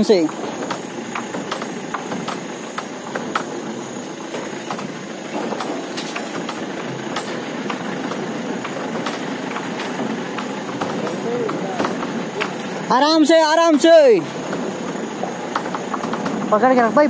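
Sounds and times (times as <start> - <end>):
vehicle body knocks and rattles: 0.0 - 17.0
vehicle engine and tyre noise: 0.0 - 17.0.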